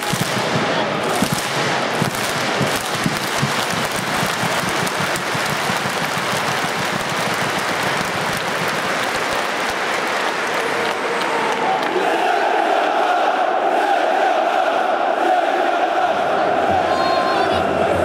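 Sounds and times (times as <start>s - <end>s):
stadium crowd clapping in unison: 0.0s - 14.6s
crowd noise: 0.0s - 18.0s.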